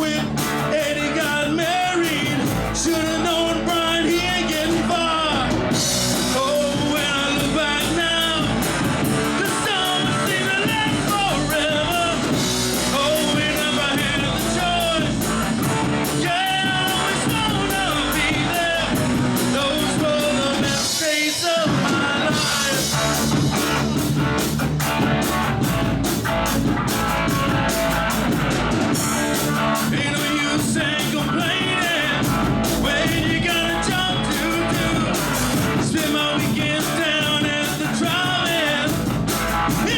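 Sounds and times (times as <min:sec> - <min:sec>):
lead singer singing: 0:00.0 - 0:24.0, 0:27.3 - 0:39.9
live rock band: 0:00.0 - 0:39.9.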